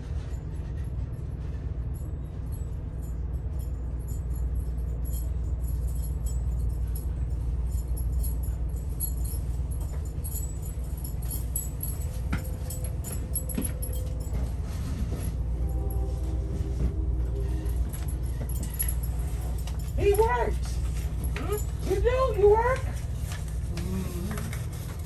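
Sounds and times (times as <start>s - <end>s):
train rumble: 0.0s - 25.0s
fittings rattling and jingling: 0.2s - 15.9s, 17.2s - 23.5s.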